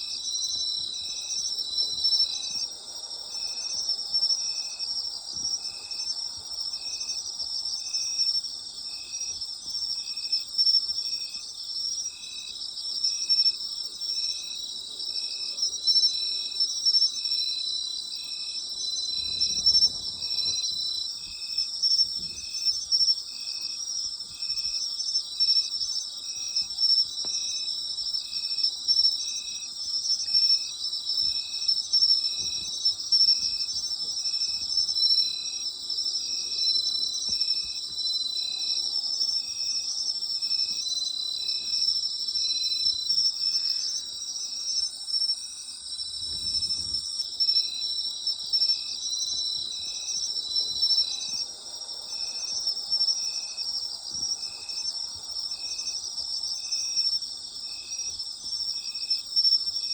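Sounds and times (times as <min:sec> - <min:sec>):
insect chirping rhythmically: 0:00.0 - 0:59.9.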